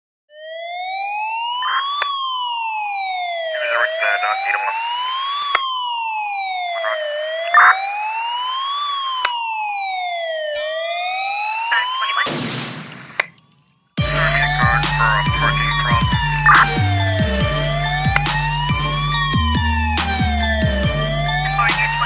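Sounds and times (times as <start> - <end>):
faster siren tone: 0.3 - 12.3, 14.0 - 22.0
siren wailing: 0.3 - 12.4, 14.0 - 22.0.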